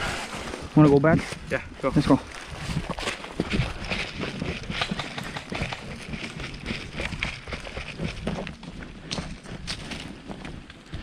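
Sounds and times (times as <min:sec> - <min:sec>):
hurried footsteps running: 0:02.0 - 0:11.0.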